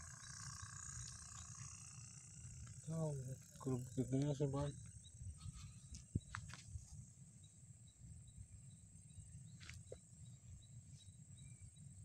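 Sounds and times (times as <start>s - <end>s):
high insect buzz: 0.0s - 12.0s
insect chirping: 0.0s - 12.0s.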